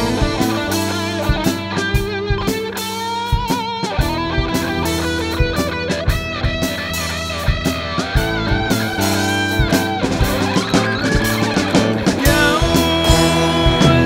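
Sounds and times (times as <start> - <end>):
lead guitar with vibrato: 0.0 - 14.0
rock band playing: 0.0 - 14.0.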